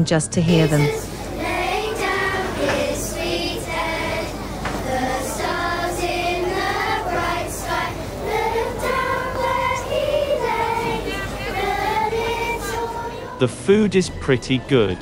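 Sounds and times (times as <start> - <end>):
children's choir singing: 0.4 - 15.0.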